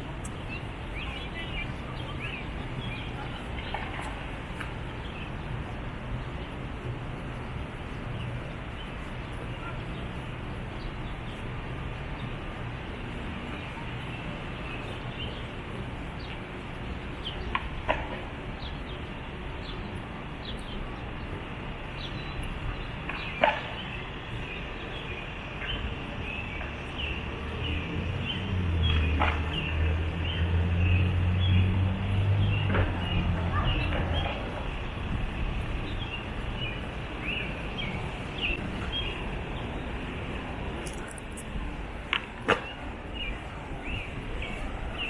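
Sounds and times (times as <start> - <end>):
steady background rush: 0.0 - 45.0
small birds chirping: 0.2 - 41.6, 42.6 - 45.0.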